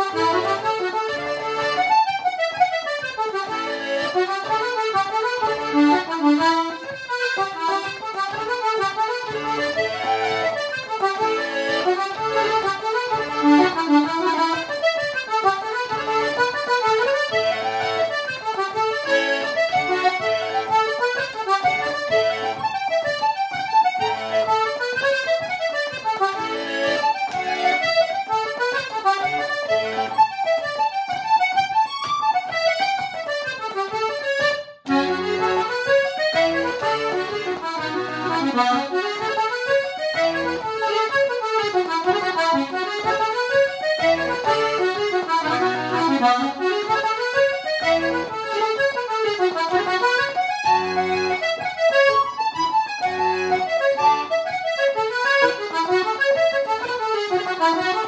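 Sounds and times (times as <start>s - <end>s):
button accordion playing jigs: 0.0s - 58.0s.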